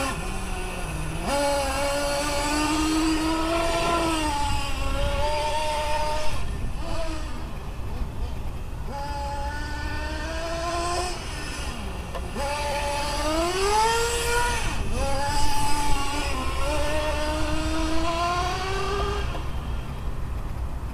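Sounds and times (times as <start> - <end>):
rc car engine revving: 0.0 - 19.6.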